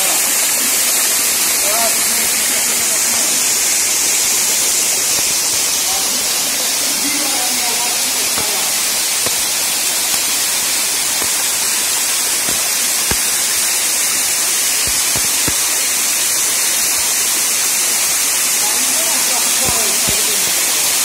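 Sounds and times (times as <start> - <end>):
waterfall splashing onto rocks: 0.0 - 21.0.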